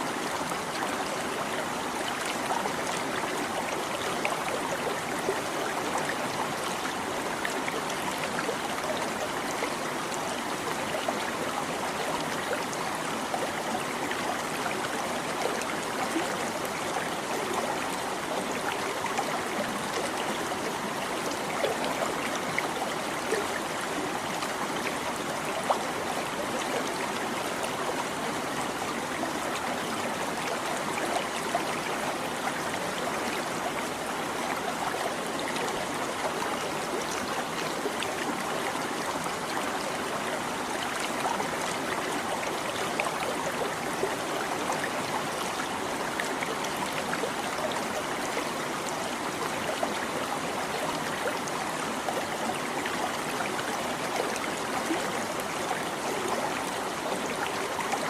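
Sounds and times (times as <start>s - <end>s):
stream babbling and trickling: 0.0s - 58.0s.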